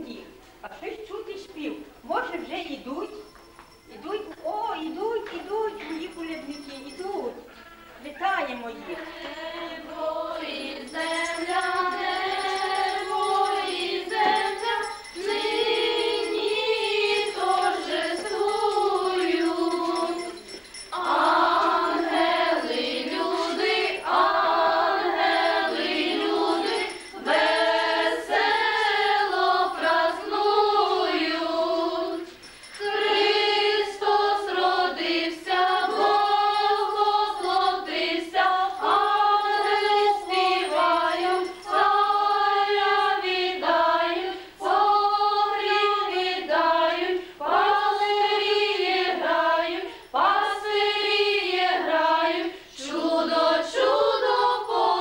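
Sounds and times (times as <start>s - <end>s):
girls singing together: 8.7s - 55.0s.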